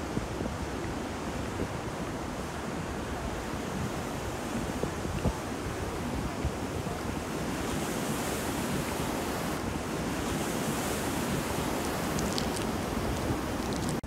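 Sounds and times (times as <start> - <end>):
water washing under pier: 0.0 - 14.0
wind on microphone: 0.0 - 14.0.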